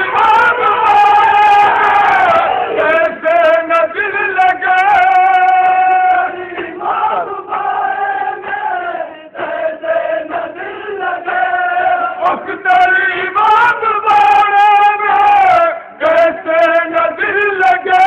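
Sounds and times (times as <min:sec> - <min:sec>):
male voices chanting a lament: 0:00.0 - 0:18.0.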